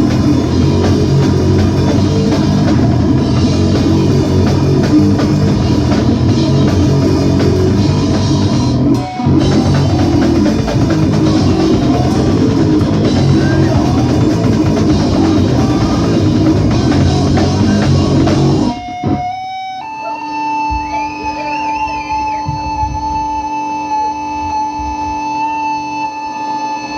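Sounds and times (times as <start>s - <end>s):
rock band playing: 0.0s - 25.4s
electric guitar ringing: 0.0s - 26.9s.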